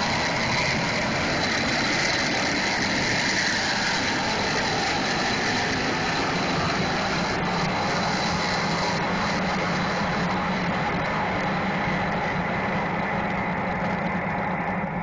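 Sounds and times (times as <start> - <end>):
propane burners rushing: 0.0 - 15.0.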